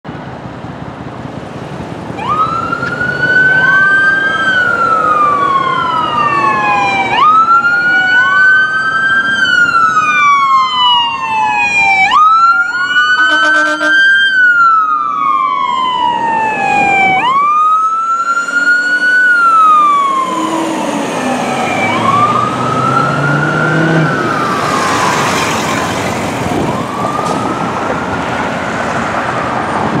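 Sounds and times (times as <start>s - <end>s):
emergency sirens wailing: 0.1s - 30.0s.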